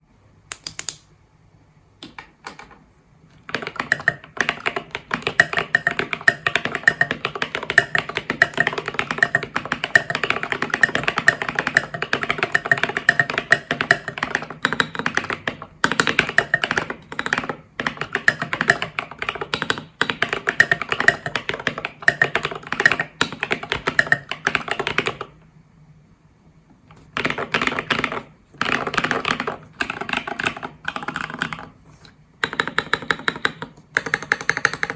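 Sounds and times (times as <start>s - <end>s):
mechanical keyboard typing: 2.0s - 25.4s, 26.9s - 31.8s, 32.4s - 34.9s.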